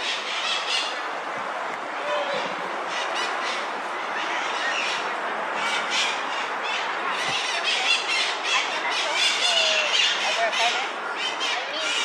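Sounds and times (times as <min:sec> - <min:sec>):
street crowd hubbub: 0:00.0 - 0:12.0.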